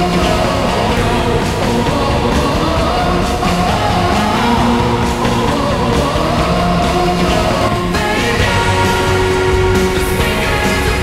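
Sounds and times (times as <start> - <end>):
rock music with singing: 0.0 - 11.0.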